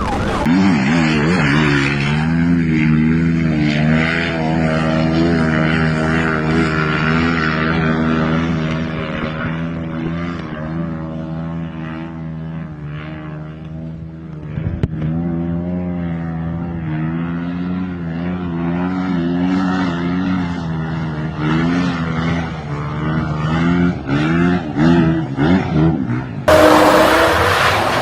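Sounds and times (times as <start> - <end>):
engine running and revving: 0.0 - 28.0.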